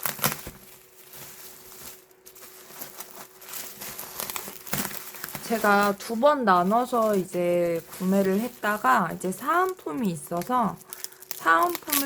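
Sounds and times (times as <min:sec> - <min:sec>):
faint steady hum: 0:00.0 - 0:12.0
packaging rustling and clicking: 0:00.0 - 0:12.0.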